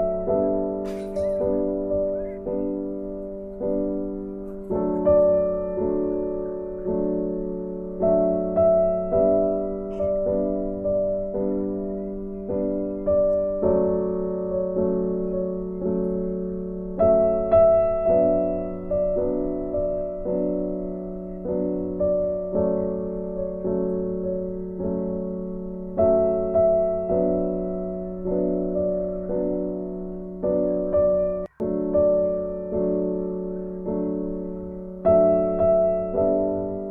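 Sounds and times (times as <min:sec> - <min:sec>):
soft piano music: 0:00.0 - 0:36.9.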